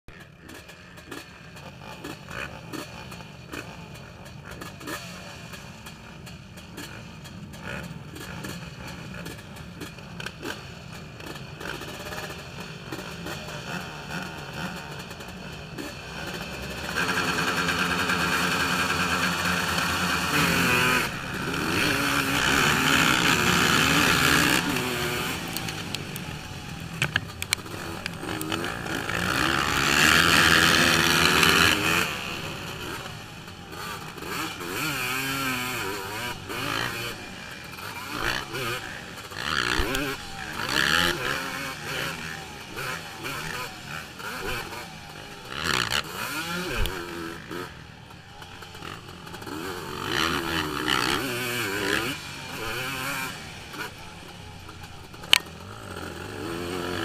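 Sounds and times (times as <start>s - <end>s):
quad engines revving: 0.1s - 57.0s.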